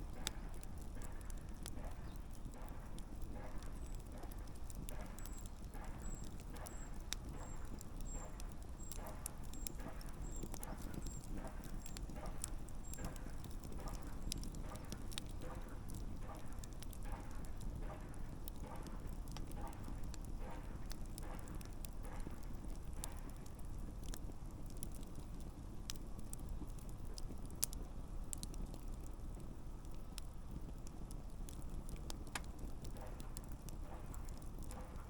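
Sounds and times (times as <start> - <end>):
campfire crackles and pops: 0.0 - 35.0
campfire low rumble: 0.0 - 35.0.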